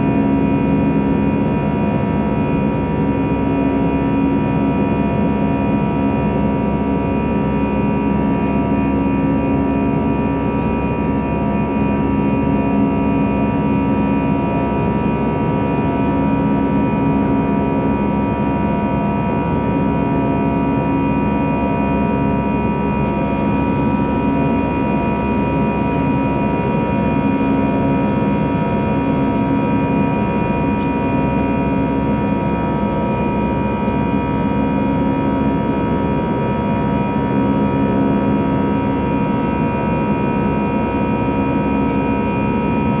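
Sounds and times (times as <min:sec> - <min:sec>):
jet engines in cabin: 0:00.0 - 0:43.0.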